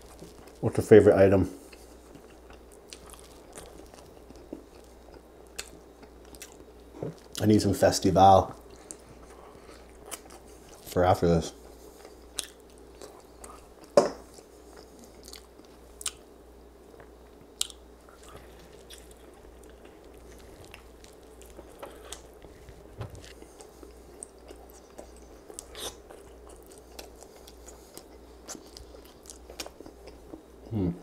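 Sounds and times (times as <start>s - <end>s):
person chewing meat: 1.6s - 7.4s, 8.6s - 10.9s, 11.6s - 16.2s, 17.0s - 30.8s.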